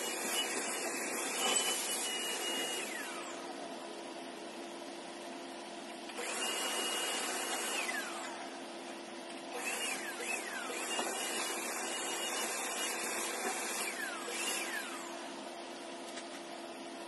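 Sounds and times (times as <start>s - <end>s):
machine whir with low hum: 0.0s - 17.0s.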